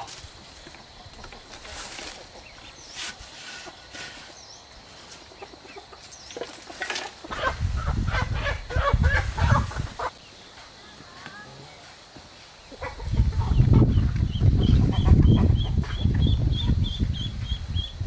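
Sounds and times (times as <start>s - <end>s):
chickens clucking: 0.0s - 10.8s, 11.9s - 17.9s.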